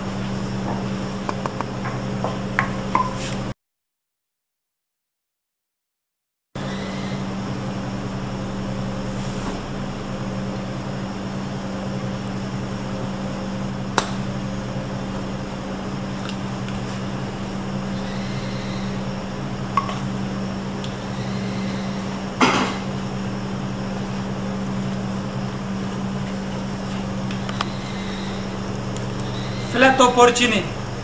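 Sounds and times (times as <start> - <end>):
low machine hum: 0.0 - 3.5, 6.6 - 31.0.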